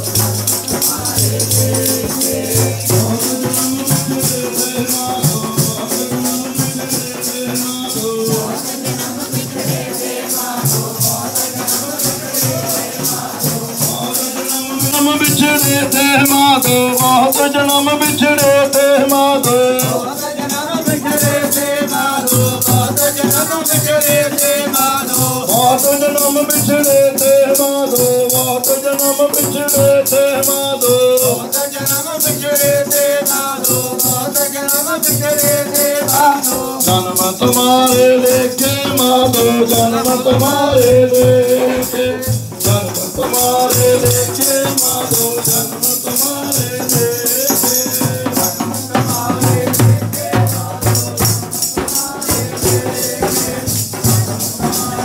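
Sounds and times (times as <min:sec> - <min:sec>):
jingling hand percussion: 0:00.0 - 0:55.0
voices singing a hymn: 0:00.0 - 0:55.0.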